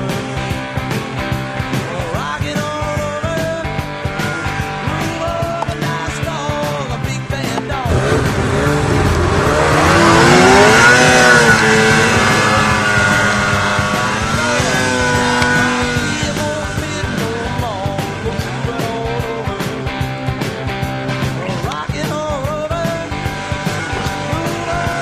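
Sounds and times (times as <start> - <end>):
background music: 0.0 - 25.0
snowmobile engine revving: 0.0 - 25.0.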